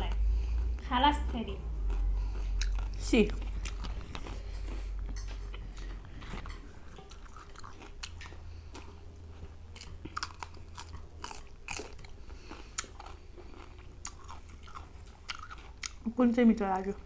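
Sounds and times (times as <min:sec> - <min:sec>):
crunchy cucumber chewing: 0:00.0 - 0:16.2.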